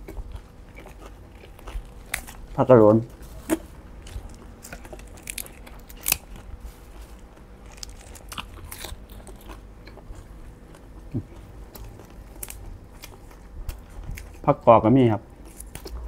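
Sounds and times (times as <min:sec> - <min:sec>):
person chewing crunchy leaves: 0:00.0 - 0:16.0.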